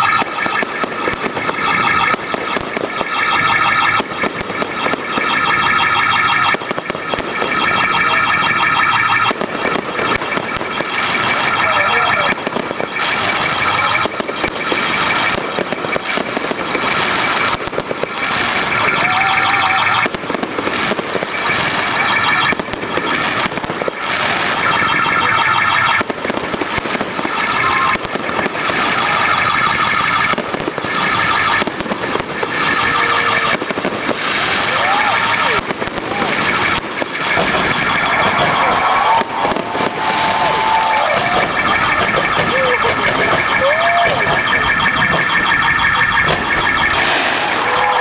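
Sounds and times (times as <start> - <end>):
fireworks crackling: 0.0 - 48.0
shrill whistling fireworks: 0.0 - 48.0.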